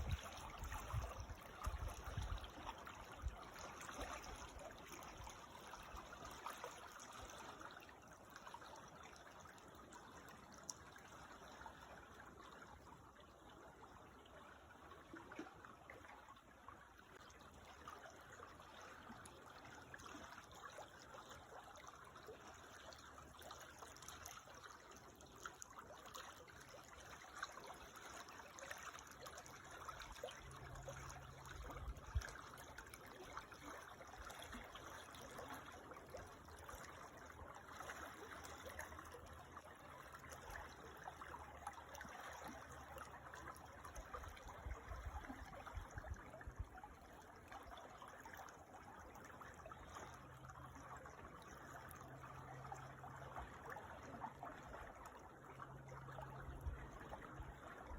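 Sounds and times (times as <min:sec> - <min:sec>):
creek water trickling: 0:00.0 - 0:57.9.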